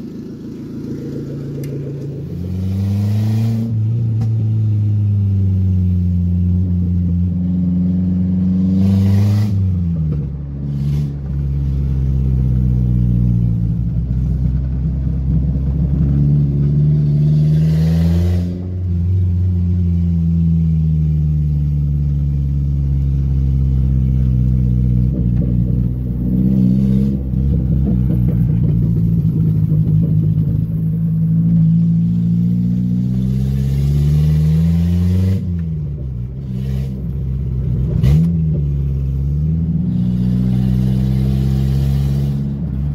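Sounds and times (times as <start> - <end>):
car engine pulling under load: 0.0 - 42.9.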